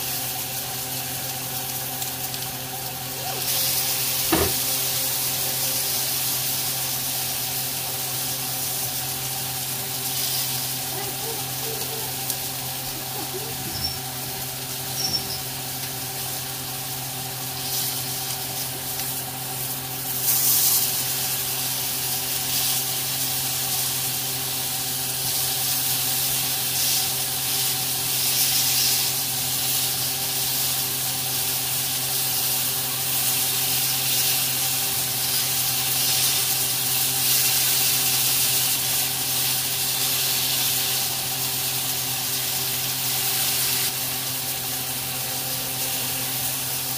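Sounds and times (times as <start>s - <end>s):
steak sizzling in pan: 0.0s - 46.9s.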